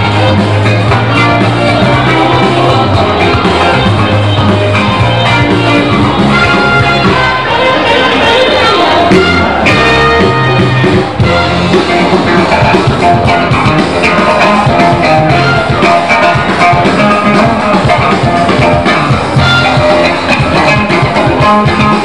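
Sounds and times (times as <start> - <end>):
loud music with guitar and drums: 0.0 - 22.0.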